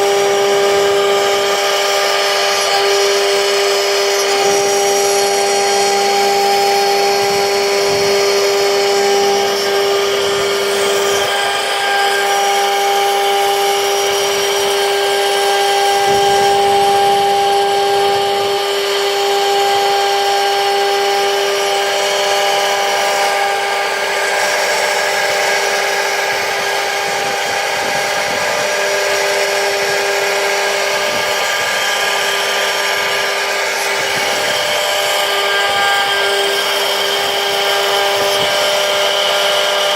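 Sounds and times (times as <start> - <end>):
router cutting noise: 0.0 - 39.9
spindle high whine: 0.0 - 39.9.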